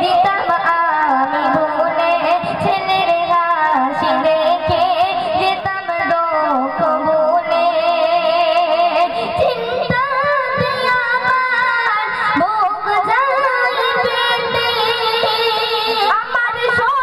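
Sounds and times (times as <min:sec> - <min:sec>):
girl singing into a microphone: 0:00.0 - 0:17.0.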